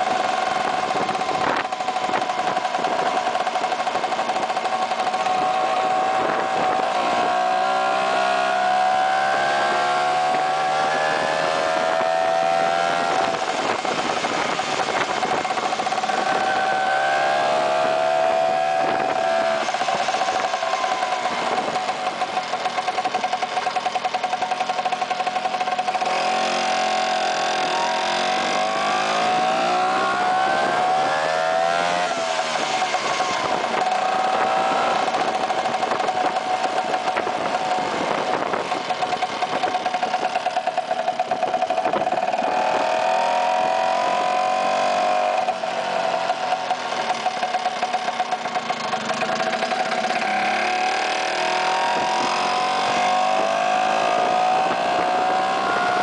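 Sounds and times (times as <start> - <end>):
scooter engine accelerating: 0.0 - 56.0.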